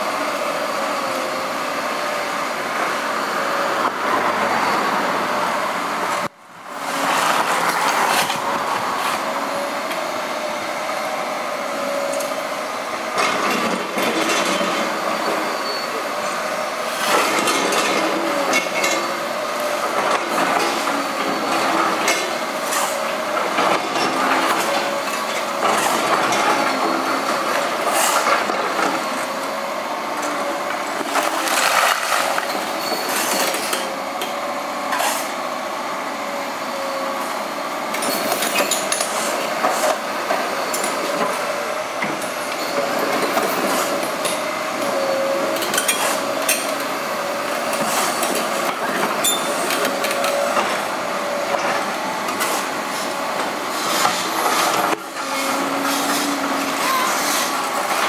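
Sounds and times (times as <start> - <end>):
excavator engines and hydraulics: 0.0 - 58.0.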